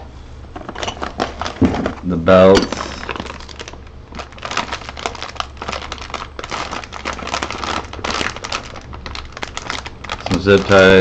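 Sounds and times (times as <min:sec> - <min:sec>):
plastic packaging crinkling: 0:00.5 - 0:11.0.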